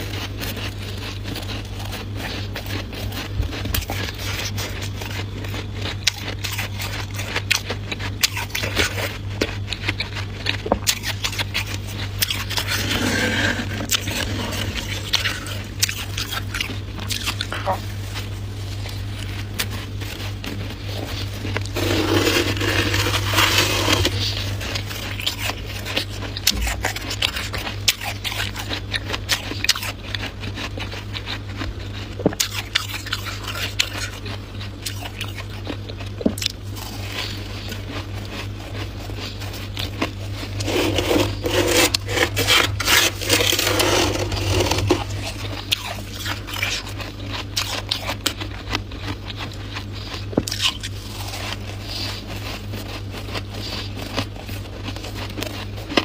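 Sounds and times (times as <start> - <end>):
frost crunching as bitten: 0.0 - 56.0
steady low hum: 0.0 - 56.0.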